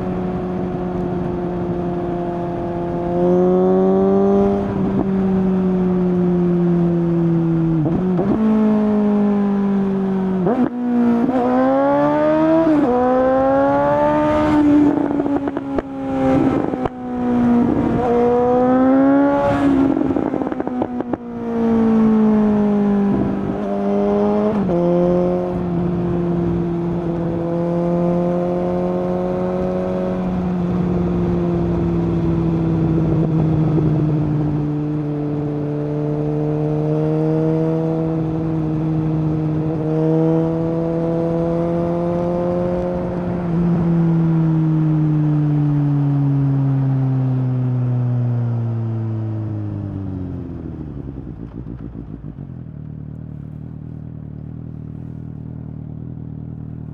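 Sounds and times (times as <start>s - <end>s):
motorcycle engine running: 0.0s - 47.7s, 48.5s - 56.9s.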